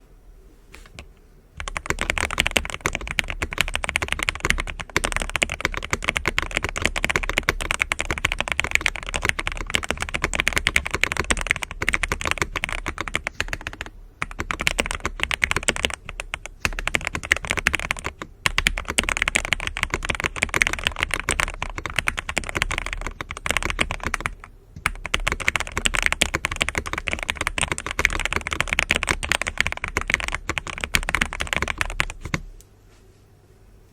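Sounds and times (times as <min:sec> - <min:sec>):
fast mechanical keyboard typing: 0:01.0 - 0:32.4.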